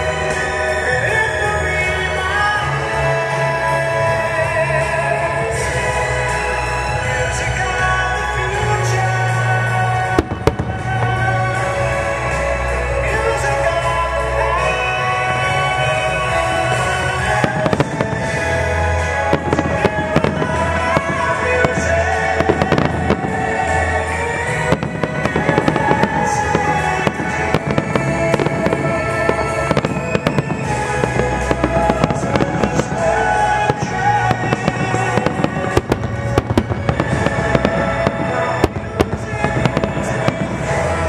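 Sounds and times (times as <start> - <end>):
firework shells bursting and crackling: 0.0 - 14.0, 14.6 - 41.0
loud music over loudspeakers: 0.0 - 41.0.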